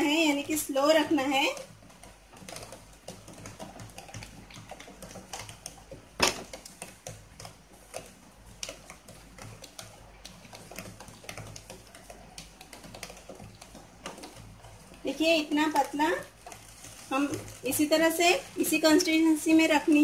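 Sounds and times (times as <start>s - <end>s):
cheese sauce simmering and popping: 0.0s - 20.0s
wooden spatula scraping a pan: 0.0s - 20.0s.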